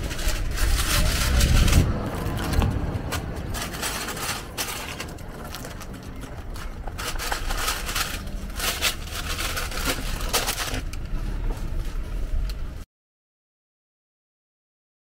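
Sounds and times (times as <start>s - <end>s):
low steady rumble: 0.0s - 12.8s
paper bag rustling: 0.0s - 12.8s.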